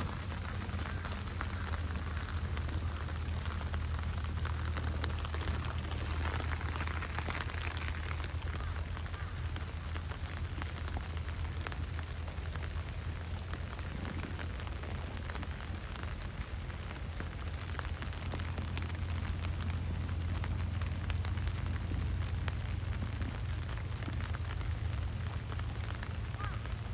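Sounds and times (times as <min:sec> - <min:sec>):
heavy rain on leaves: 0:00.0 - 0:26.9
low rumble: 0:00.0 - 0:26.9.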